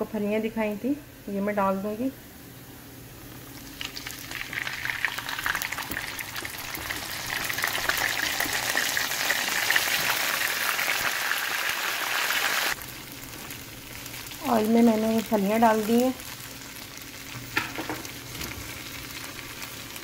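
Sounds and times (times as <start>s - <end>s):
garlic sizzling in hot oil: 3.4s - 20.0s.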